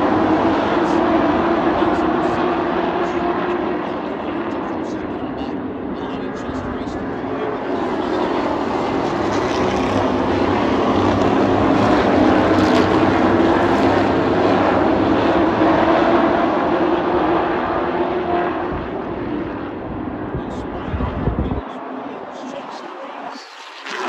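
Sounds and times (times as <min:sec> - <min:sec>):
race truck engines: 0:00.0 - 0:24.0.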